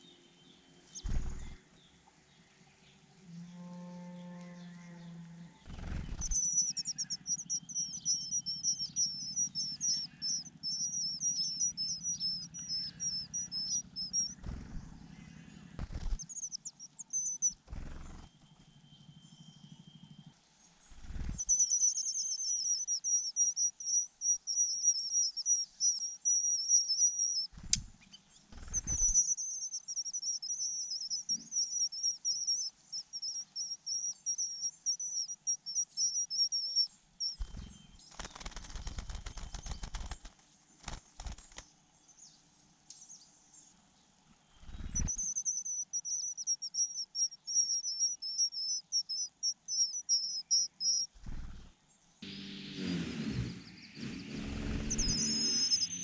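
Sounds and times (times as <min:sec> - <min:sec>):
nestlings chirping: 0:00.8 - 0:01.6, 0:05.6 - 0:19.8, 0:20.9 - 0:41.7, 0:44.6 - 0:51.7, 0:53.5 - 0:56.0.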